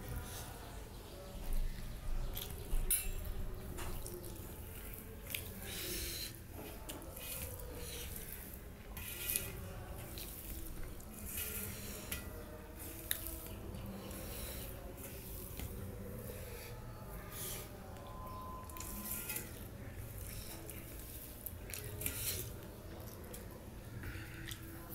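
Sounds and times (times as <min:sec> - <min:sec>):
hand mixing puffed rice: 0:00.0 - 0:24.9.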